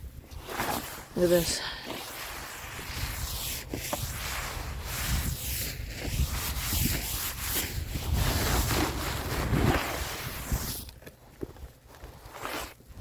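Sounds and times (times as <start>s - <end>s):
gloved hand scraping snow: 0.0s - 11.0s, 11.8s - 13.0s.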